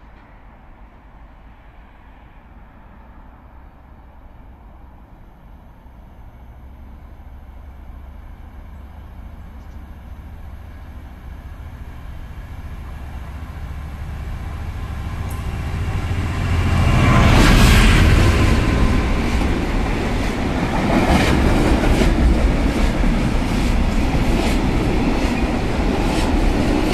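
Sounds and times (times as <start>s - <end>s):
diesel locomotive engine: 4.2s - 26.9s.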